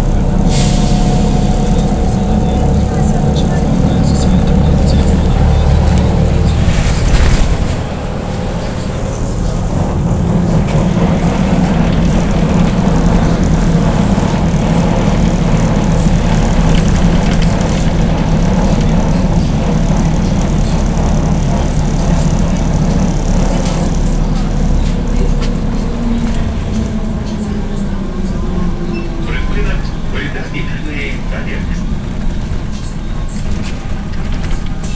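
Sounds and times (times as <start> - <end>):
rolling road noise: 0.0 - 34.9.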